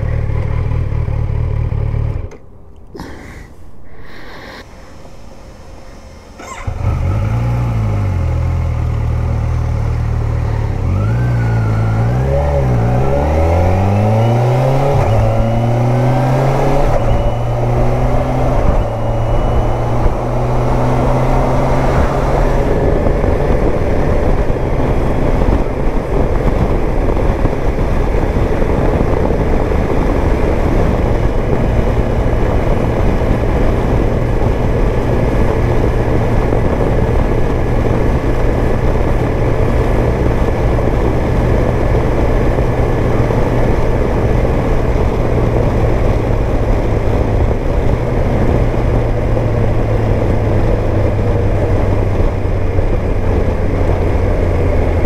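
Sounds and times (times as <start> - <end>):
motorcycle engine running: 0.0 - 2.4, 5.0 - 55.0
wind and road noise: 0.0 - 55.0.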